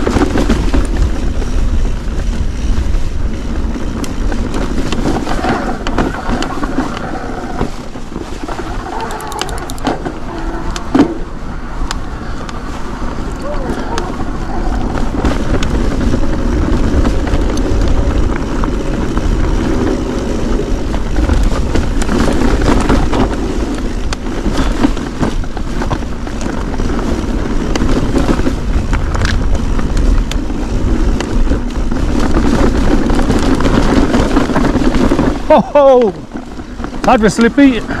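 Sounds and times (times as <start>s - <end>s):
bike rattling over rocks: 0.0s - 38.0s
bike tyres rumbling: 0.0s - 38.0s
wind on microphone: 0.0s - 38.0s.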